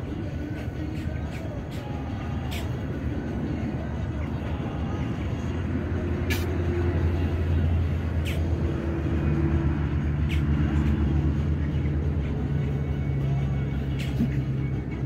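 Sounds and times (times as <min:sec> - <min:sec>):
motor traffic engine drone: 0:00.0 - 0:15.0.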